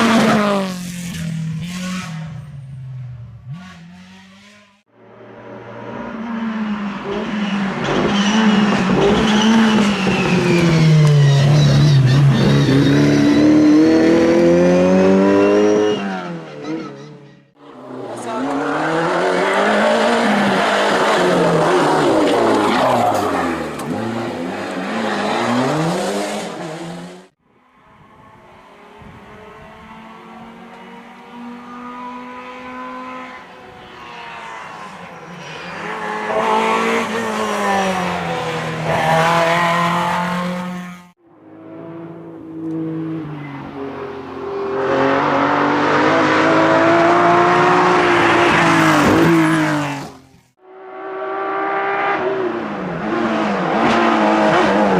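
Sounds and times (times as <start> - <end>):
rally car engines revving high: 0.0 - 2.5, 5.4 - 27.4, 28.0 - 54.9.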